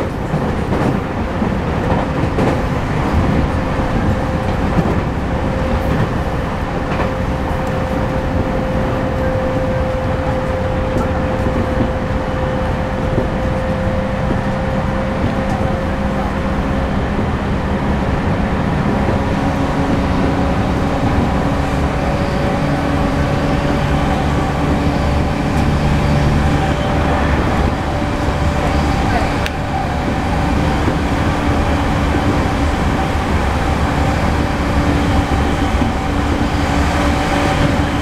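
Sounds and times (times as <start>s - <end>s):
wheel-on-rail rumble: 0.0s - 38.0s.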